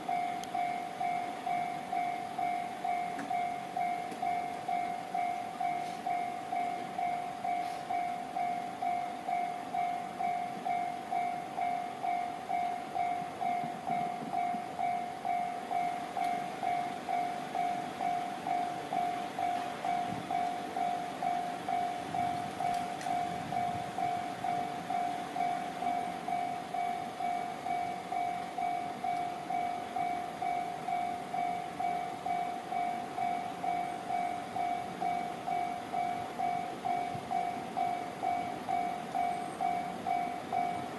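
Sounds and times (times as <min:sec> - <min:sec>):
faint low train rumble: 0:00.0 - 0:40.9
level-crossing electronic bell: 0:00.0 - 0:40.9.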